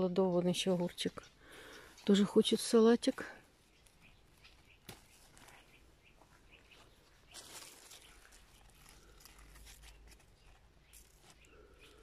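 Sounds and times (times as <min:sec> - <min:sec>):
leaves rustling: 0:00.6 - 0:12.0.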